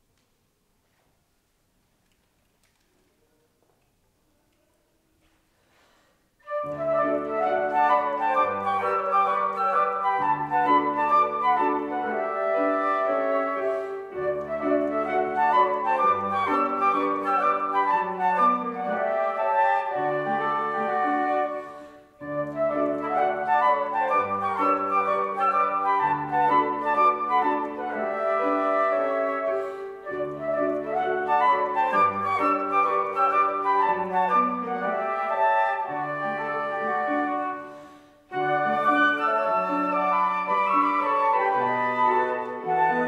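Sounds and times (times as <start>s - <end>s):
flutes playing classical music: 6.4s - 43.0s
piano accompaniment: 6.4s - 43.0s.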